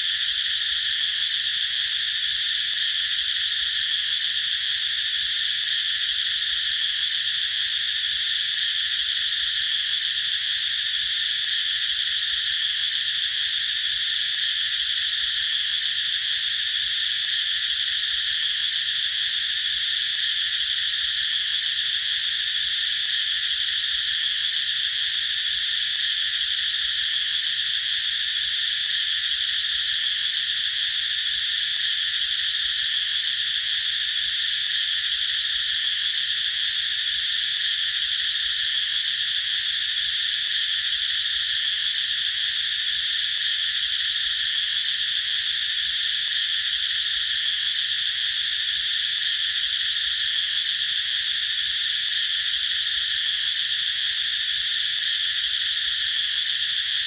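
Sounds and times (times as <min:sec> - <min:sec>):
cicadas droning: 0:00.0 - 0:57.0.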